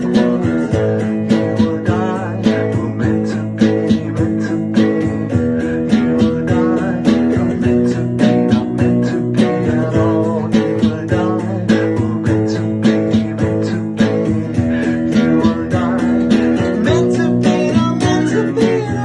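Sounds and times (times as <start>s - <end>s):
strummed acoustic guitar song: 0.0s - 19.0s.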